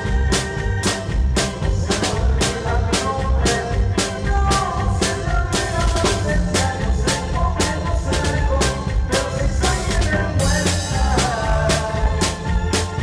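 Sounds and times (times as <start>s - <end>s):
drum kit beat: 0.0s - 13.0s
live dance band: 0.0s - 13.0s.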